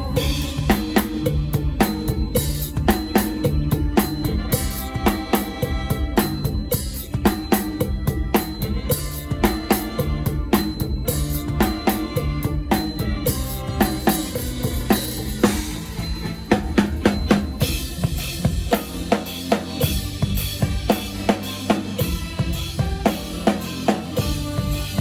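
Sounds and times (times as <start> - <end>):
band instruments playing: 0.0 - 25.0
drum kit beat: 0.0 - 25.0.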